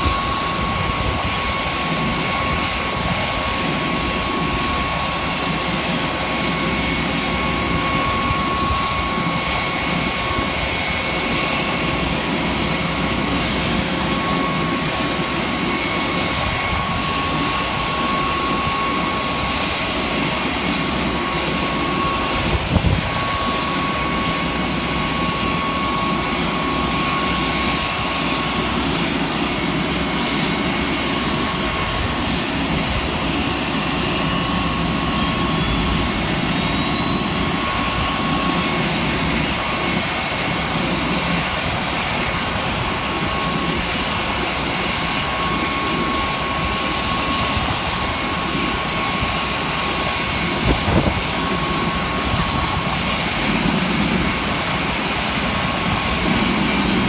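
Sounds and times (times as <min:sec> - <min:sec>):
jet engines rumbling with whine: 0:00.0 - 0:57.0.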